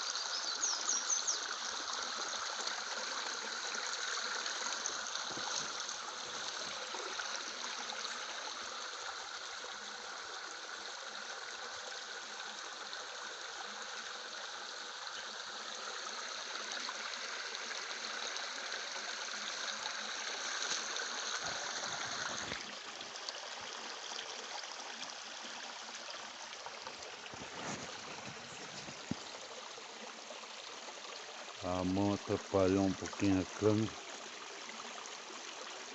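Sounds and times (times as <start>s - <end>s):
water rushing at waterfall: 2.8s - 23.5s, 26.4s - 35.9s.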